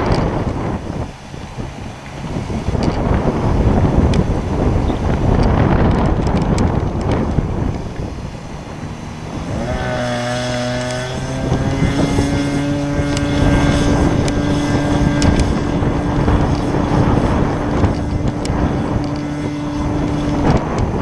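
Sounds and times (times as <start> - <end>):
model aeroplane engine: 0.0 - 21.0
wind buffeting microphone: 0.0 - 21.0.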